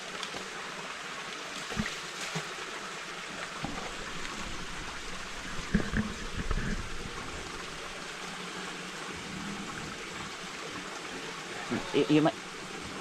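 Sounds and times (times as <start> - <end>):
small stream trickling: 0.0 - 13.0.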